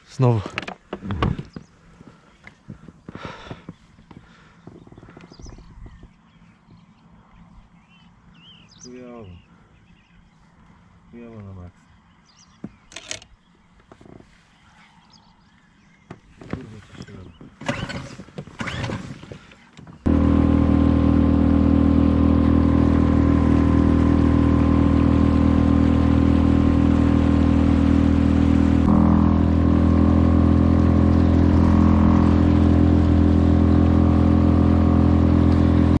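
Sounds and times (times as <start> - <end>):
outboard motor running: 0.2 - 10.2, 12.7 - 13.3, 16.1 - 36.0.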